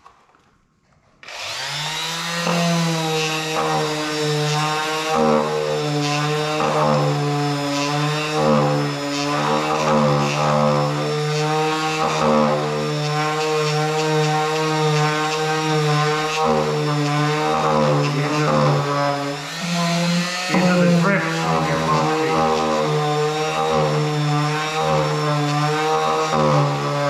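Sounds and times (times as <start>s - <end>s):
power sander sanding: 1.2s - 27.0s.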